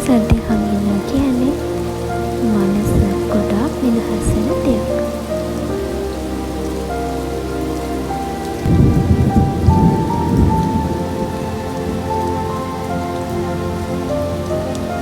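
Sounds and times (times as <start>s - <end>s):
heavy rain falling: 0.0s - 15.0s
low rumble of thunder: 0.0s - 15.0s.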